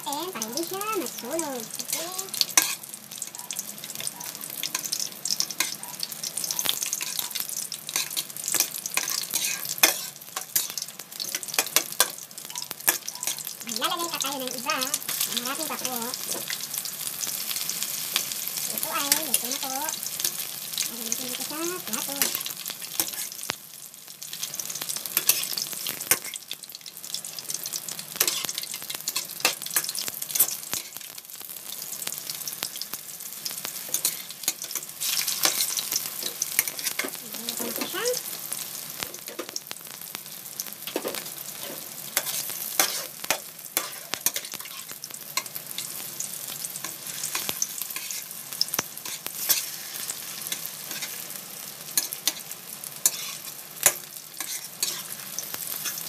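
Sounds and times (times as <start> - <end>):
oil sizzling and crackling: 0.0 - 56.0.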